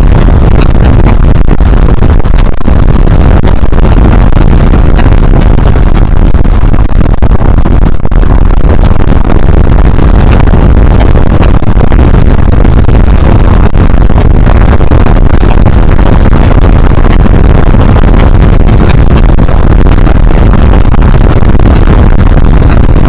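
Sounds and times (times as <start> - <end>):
wind rushing on microphone: 0.0 - 23.0.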